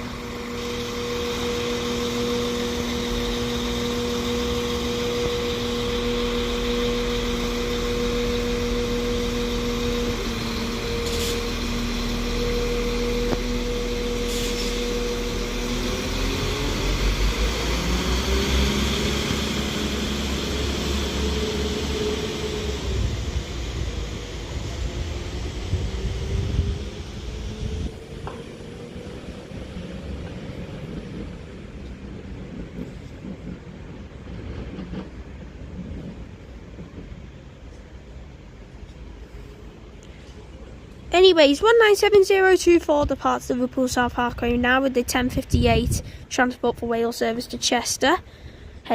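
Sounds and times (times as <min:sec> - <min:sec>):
train diesel engines revving: 0:00.0 - 0:48.9.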